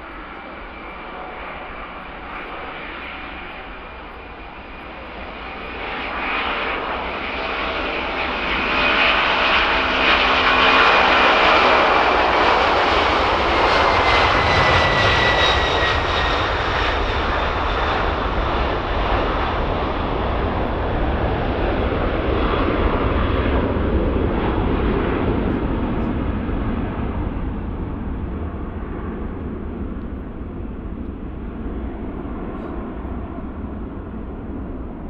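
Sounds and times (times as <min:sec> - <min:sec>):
jet aircraft engines passing: 0:00.0 - 0:35.0.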